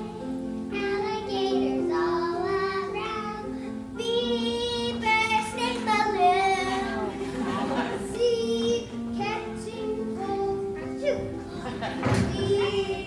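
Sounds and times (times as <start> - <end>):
child singing: 0.0 - 13.0
instrumental accompaniment: 0.0 - 13.0.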